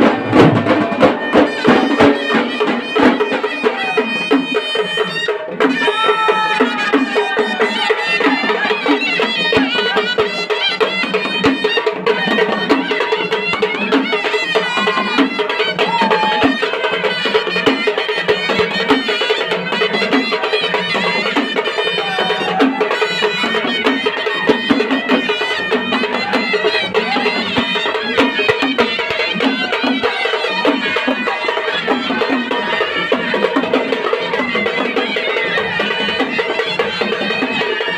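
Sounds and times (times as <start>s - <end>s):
band playing loudly: 0.0s - 37.9s
drums beating steadily: 0.0s - 37.9s
wind instrument melody: 0.0s - 37.9s.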